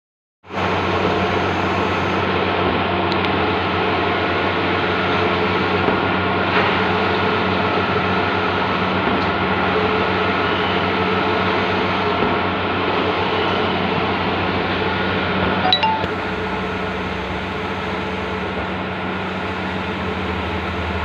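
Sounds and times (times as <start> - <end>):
printer mechanical hum and whir: 0.5 - 15.4, 16.7 - 21.0.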